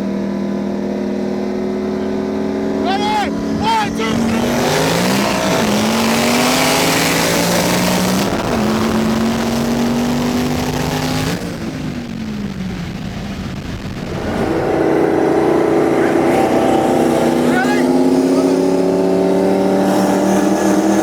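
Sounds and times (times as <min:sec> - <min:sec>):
car engine at full throttle: 0:00.0 - 0:21.0.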